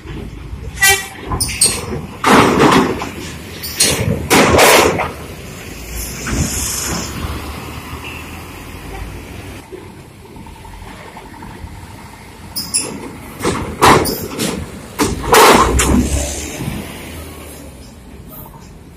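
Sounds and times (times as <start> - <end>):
bus engines rumbling: 0.0 - 18.9.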